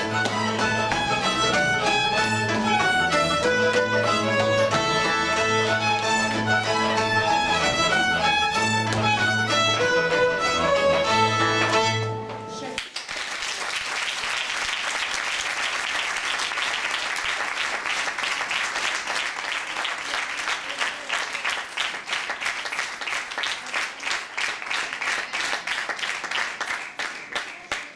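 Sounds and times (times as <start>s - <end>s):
audience applauding: 0.0s - 11.9s, 12.8s - 27.9s.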